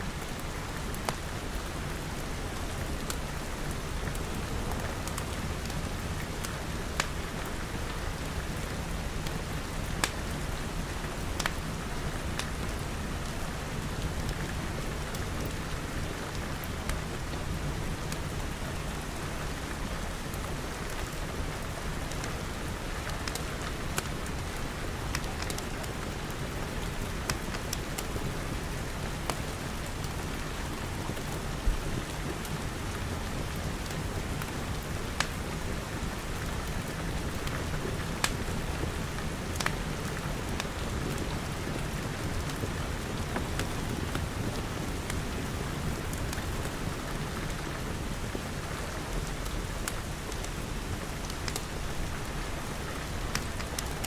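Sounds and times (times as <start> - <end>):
rain on glass: 0.1 - 54.0
wood fire crackling: 0.2 - 54.0.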